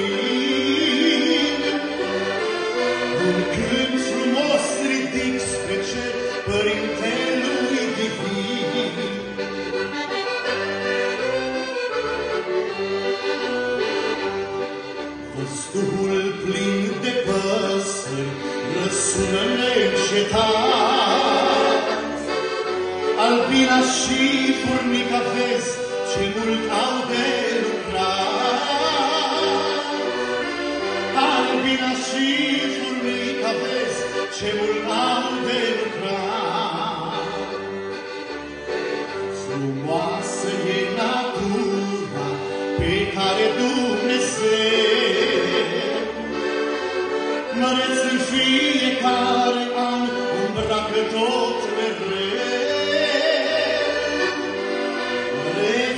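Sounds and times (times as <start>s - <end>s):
man singing: 0.0s - 9.6s, 15.2s - 37.8s, 39.1s - 46.5s, 47.4s - 54.6s, 55.2s - 55.9s
piano accordion chords: 0.0s - 55.9s.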